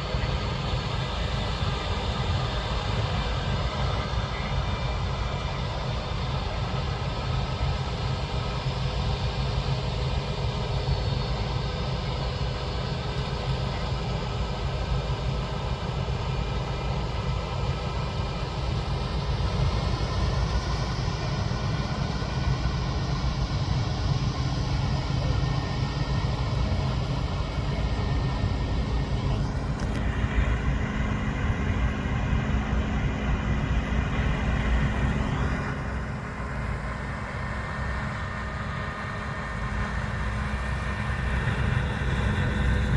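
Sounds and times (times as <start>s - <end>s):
harvester diesel engines running: 0.0s - 42.9s.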